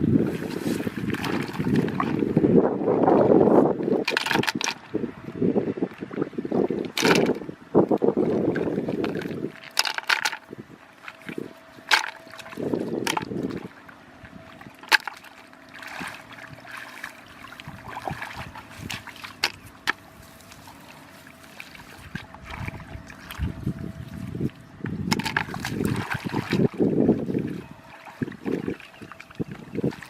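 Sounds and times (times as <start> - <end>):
faint steady whine: 0.0 - 30.0
water splashing and sloshing: 0.0 - 30.0.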